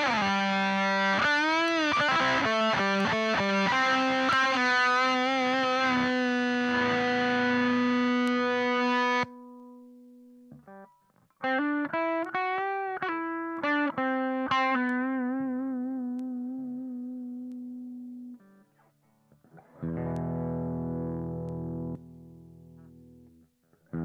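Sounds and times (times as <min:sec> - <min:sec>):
distorted electric guitar: 0:00.0 - 0:09.9, 0:10.5 - 0:24.0.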